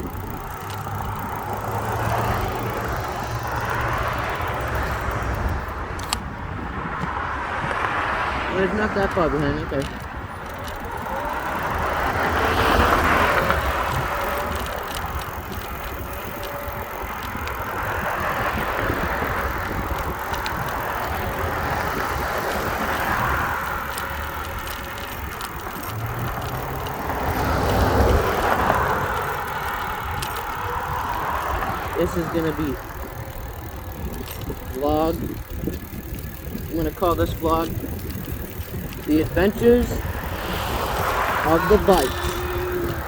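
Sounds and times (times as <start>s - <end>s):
cars passing: 0.0s - 43.0s
wind rumble on microphone: 0.0s - 43.0s.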